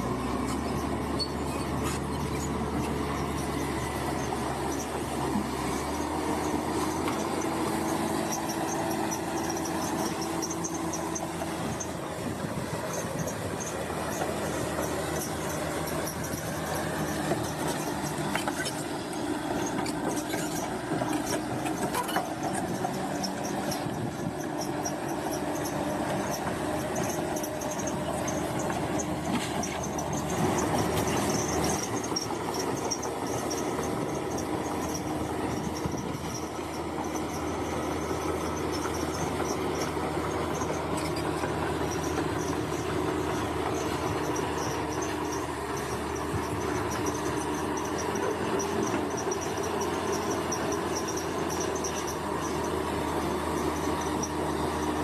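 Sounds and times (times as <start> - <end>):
diesel engine: 0.0 - 55.0
metallic squealing of tracks: 0.0 - 55.0.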